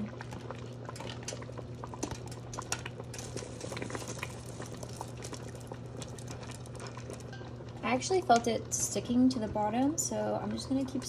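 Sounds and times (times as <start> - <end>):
sauce boiling with bubbles popping: 0.0 - 11.0.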